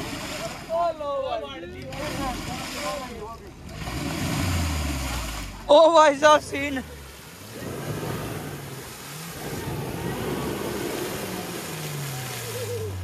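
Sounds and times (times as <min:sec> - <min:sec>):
engine revving hard: 0:01.8 - 0:13.0.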